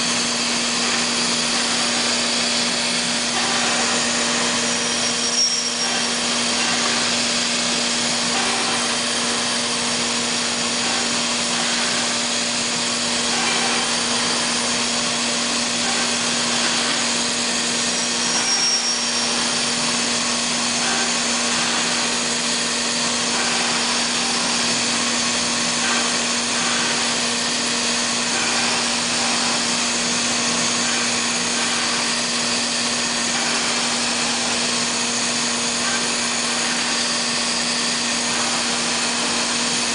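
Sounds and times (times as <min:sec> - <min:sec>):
wood routing machine hiss: 0:00.0 - 0:39.9.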